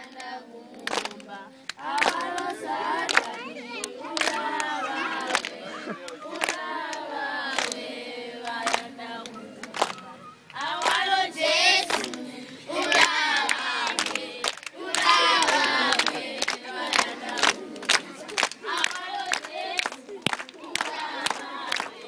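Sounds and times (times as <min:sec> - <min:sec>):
hands clapping: 0:00.0 - 0:11.1, 0:11.8 - 0:22.0
children singing: 0:00.0 - 0:22.0.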